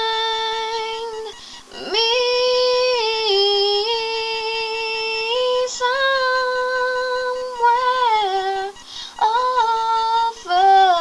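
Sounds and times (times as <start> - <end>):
woman singing long wordless notes: 0.0 - 11.0.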